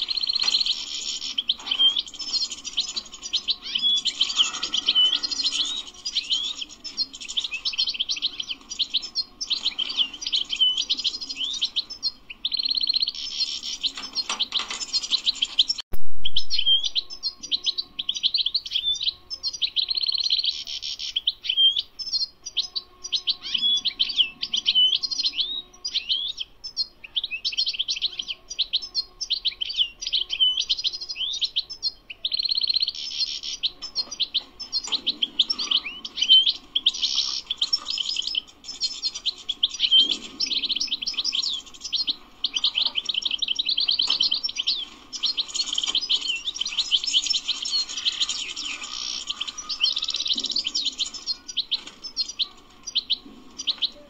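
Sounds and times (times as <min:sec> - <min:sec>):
finch twittering and trilling: 0:00.0 - 0:54.0.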